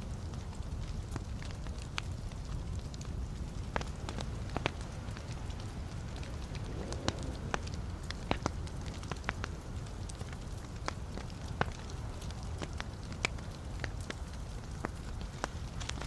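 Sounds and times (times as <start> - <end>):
burning logs crackling and popping: 0.0 - 16.0
low rumble of flames: 0.0 - 16.0.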